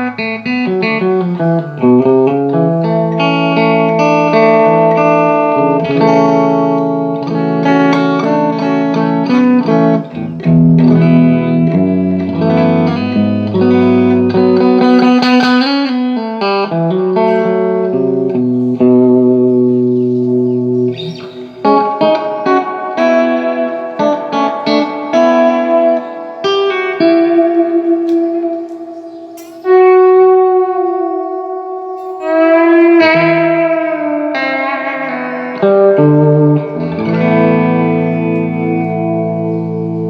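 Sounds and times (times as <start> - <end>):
electric guitar chords and runs: 0.0 - 40.0.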